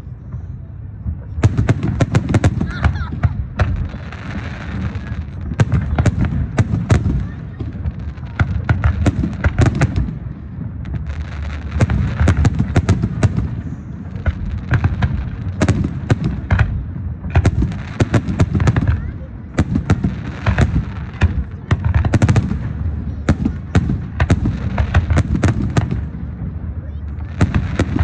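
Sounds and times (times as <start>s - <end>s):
fireworks bangs and cracks: 0.0s - 28.0s.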